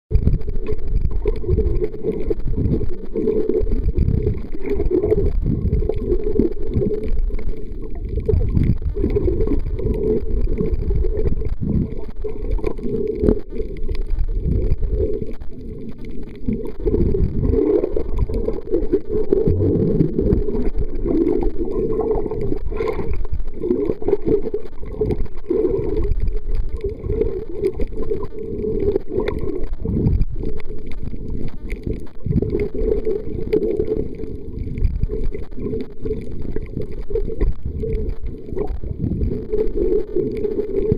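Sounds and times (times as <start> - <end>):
faint clicks and knocks: 0.1 - 40.9
underwater rumble of moving water: 0.1 - 40.9.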